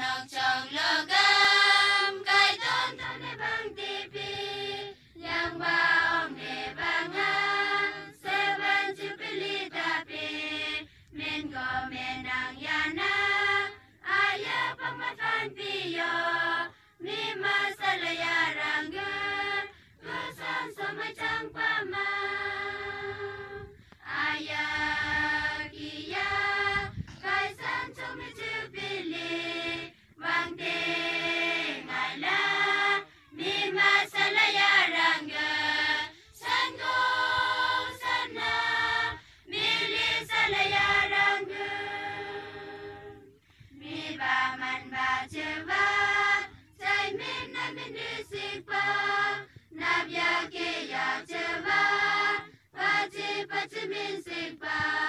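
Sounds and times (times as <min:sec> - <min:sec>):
mixed choir singing unaccompanied: 0:00.0 - 0:55.0.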